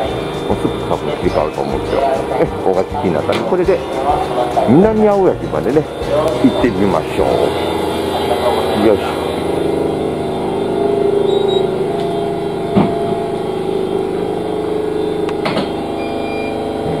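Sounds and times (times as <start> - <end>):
electric train hum: 0.0 - 17.0.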